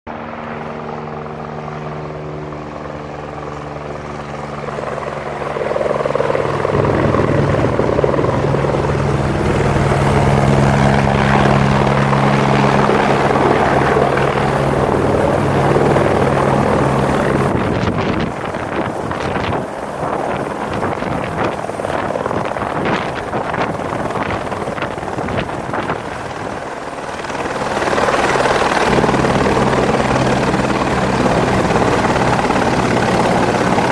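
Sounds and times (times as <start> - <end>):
helicopter rotor and engine: 0.1 - 33.9
wind buffeting microphone: 4.5 - 33.9.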